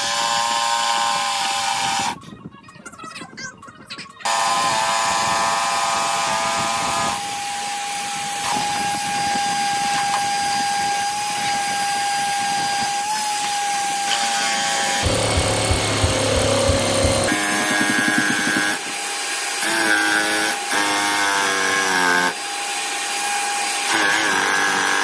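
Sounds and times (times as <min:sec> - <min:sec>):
power drill driving screw into wood: 0:00.0 - 0:02.2, 0:04.3 - 0:25.0.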